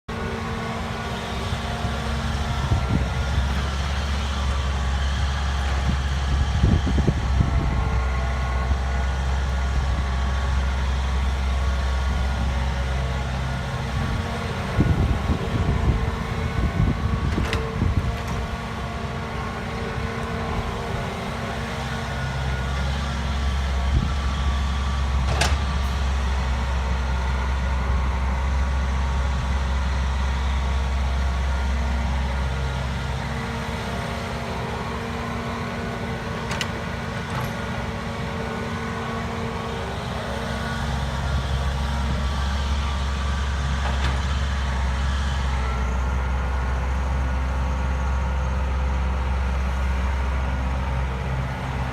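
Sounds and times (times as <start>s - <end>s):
excavator diesel engine running: 0.1s - 51.9s.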